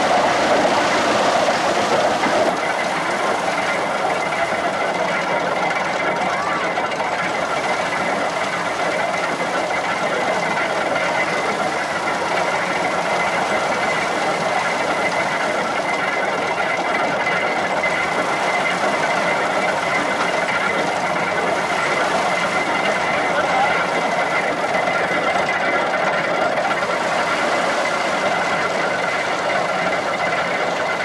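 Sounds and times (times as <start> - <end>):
threshing machine drum whirring: 0.0 - 31.0.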